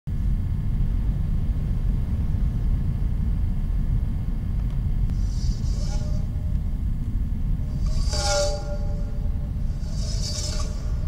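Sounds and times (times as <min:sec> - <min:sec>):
low rumbling drone: 0:00.1 - 0:11.0.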